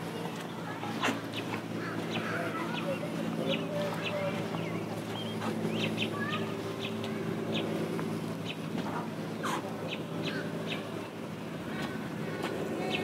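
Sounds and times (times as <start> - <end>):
low mechanical hum: 0.0 - 13.0
small birds chirping: 0.4 - 7.8, 9.4 - 13.0.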